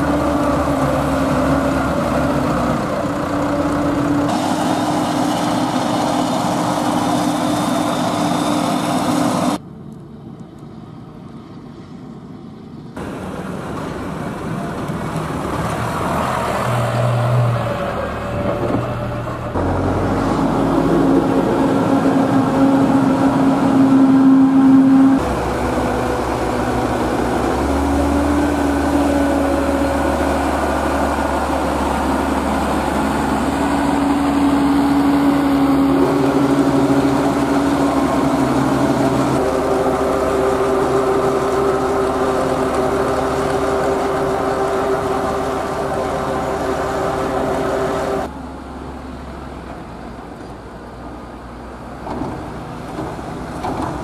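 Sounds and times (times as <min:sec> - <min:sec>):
tractor diesel engines droning: 0:00.0 - 0:54.0.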